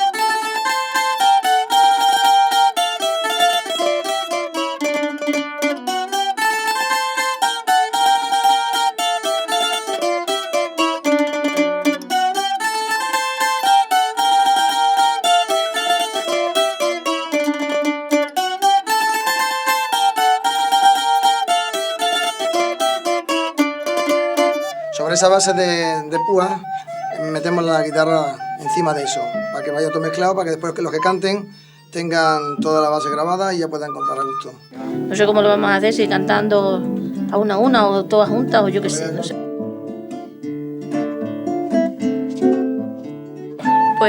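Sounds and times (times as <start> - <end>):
plucked string ensemble playing: 0.0 - 44.0.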